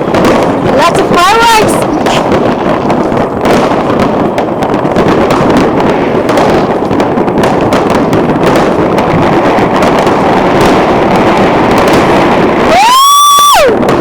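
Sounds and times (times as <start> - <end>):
fireworks bangs and pops: 0.0 - 14.0.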